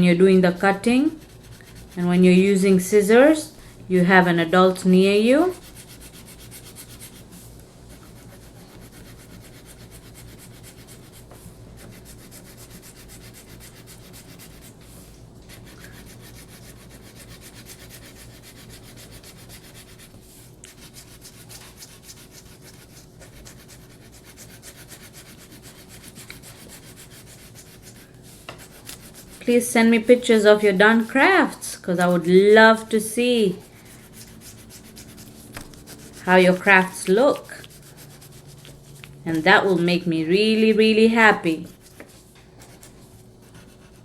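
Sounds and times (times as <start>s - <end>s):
crayon rubbing on paper: 0.7s - 3.4s, 4.4s - 31.2s, 31.9s - 44.0s.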